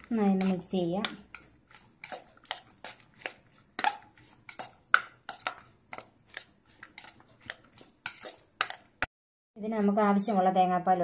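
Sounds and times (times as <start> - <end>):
spoon scraping a bowl: 0.0 - 9.1.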